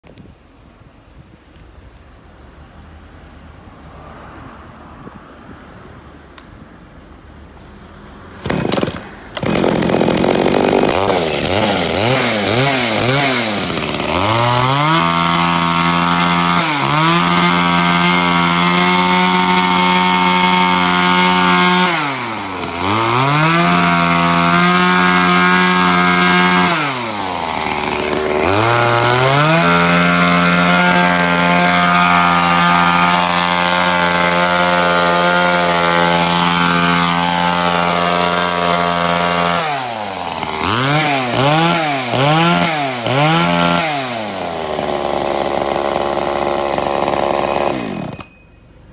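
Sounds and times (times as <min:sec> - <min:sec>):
small chainsaw engine revving: 0:08.4 - 0:48.3.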